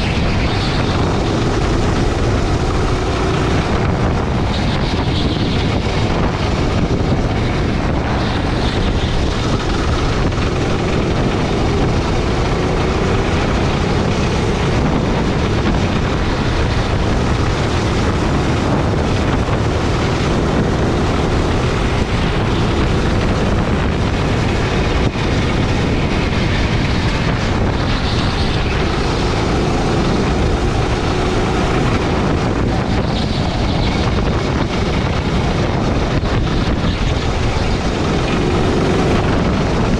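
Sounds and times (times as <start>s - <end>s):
kart engine running: 0.0s - 39.9s
wind noise on microphone: 0.0s - 39.9s.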